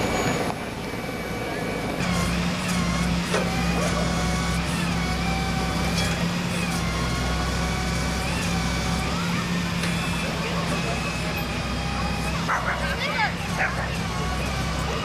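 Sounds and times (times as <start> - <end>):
hydraulic winch whine: 0.0 - 15.0
truck engine deep rumble: 0.0 - 15.0.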